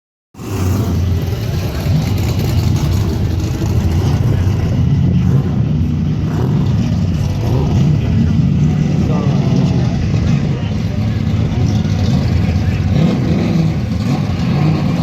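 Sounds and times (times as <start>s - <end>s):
car engine running loud: 0.4s - 15.0s.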